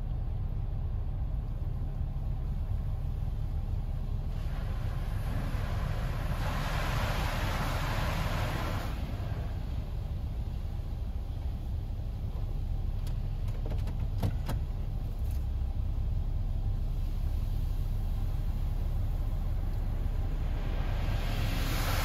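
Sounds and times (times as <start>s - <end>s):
car wash rumble inside car: 0.0s - 22.0s.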